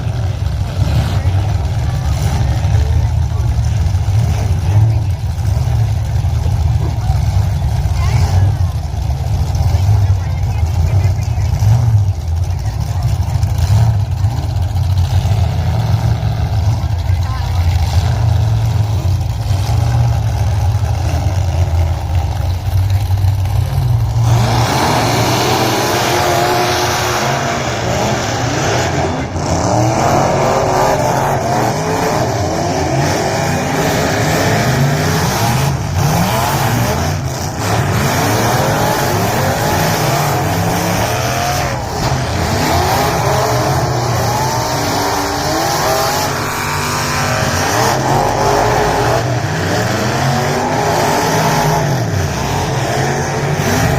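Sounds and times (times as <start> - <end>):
race car engines revving: 0.0 - 53.9.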